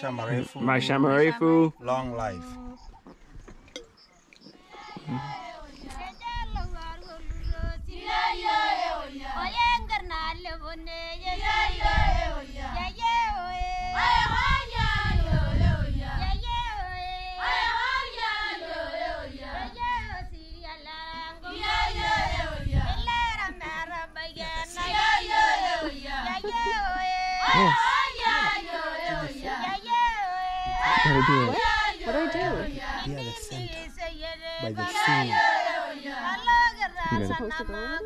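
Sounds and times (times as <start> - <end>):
group singing together: 4.5 - 10.1, 11.0 - 37.4.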